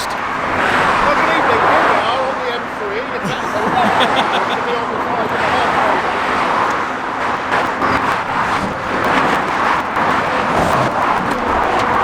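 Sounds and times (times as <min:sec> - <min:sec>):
motorway traffic rushing past: 0:00.0 - 0:12.0.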